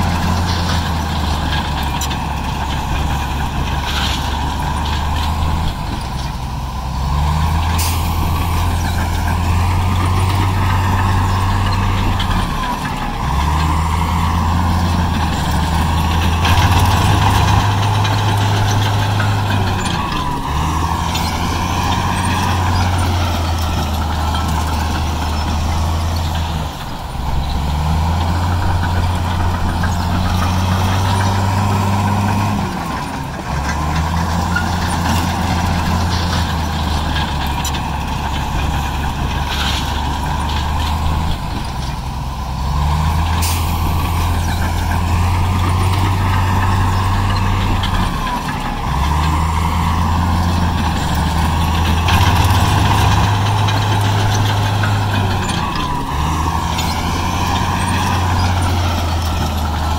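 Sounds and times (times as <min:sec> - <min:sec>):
diesel machinery engine: 0:00.0 - 0:59.9.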